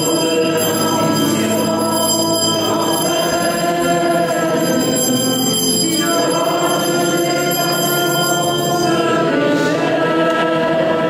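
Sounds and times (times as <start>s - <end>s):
congregation singing a hymn: 0.0s - 11.0s
held chords: 0.0s - 11.0s.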